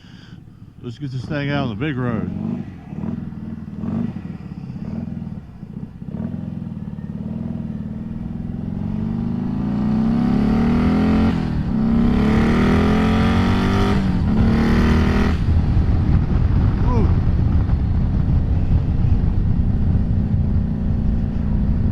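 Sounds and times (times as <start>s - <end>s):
motorcycle accelerating hard: 0.4s - 21.9s.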